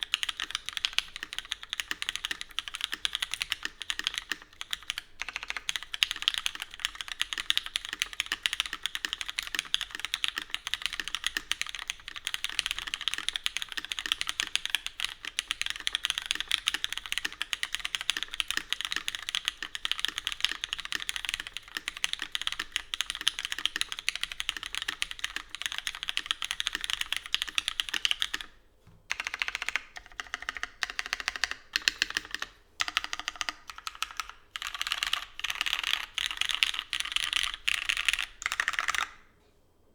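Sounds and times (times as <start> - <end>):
mechanical keyboard typing: 0.0 - 39.3.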